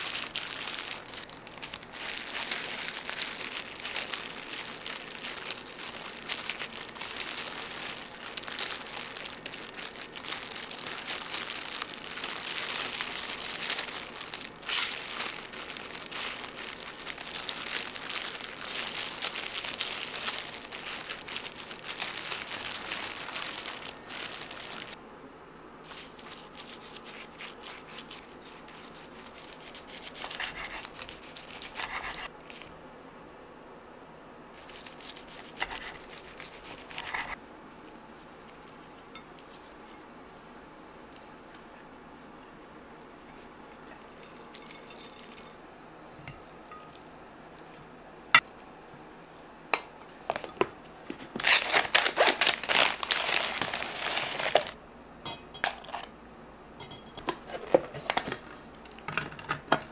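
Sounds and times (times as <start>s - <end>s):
plastic gloves crinkling: 0.0s - 25.0s, 25.8s - 32.7s, 34.5s - 37.4s, 38.1s - 40.2s, 40.8s - 45.5s, 49.8s - 56.0s, 56.8s - 59.9s.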